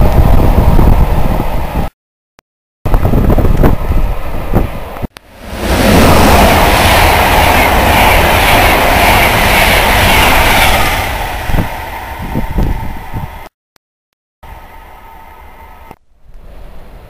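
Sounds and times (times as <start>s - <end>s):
train passing at speed: 0.0s - 1.9s, 2.9s - 13.5s, 14.4s - 17.0s.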